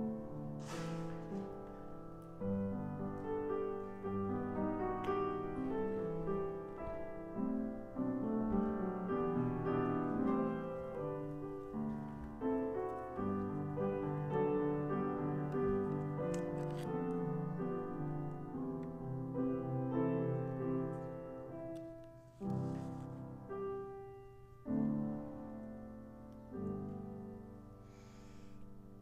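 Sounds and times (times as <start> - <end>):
slow gentle piano music: 0.0 - 29.0.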